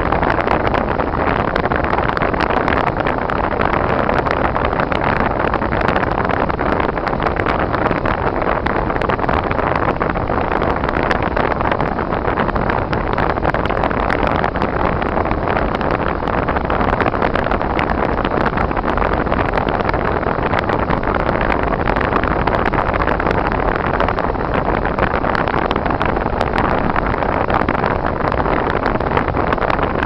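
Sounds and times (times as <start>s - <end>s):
road and engine rumble: 0.0s - 30.0s.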